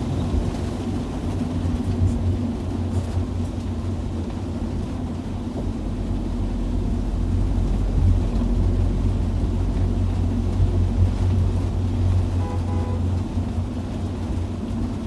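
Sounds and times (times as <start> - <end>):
vehicle rumble on highway: 0.0 - 15.0.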